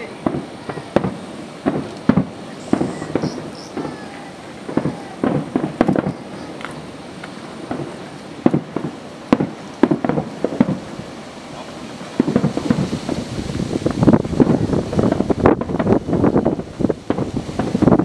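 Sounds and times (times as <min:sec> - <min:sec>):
fireworks bursting with echoing bangs: 0:00.0 - 0:18.0.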